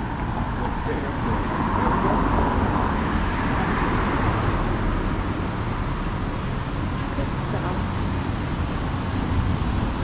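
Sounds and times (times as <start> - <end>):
passing cars traffic: 0.0 - 10.0.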